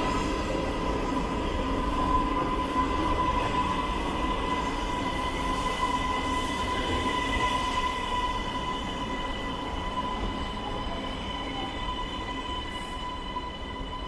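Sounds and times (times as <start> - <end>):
high steady squeal: 0.0 - 14.0
metro train rumbling: 0.0 - 14.0.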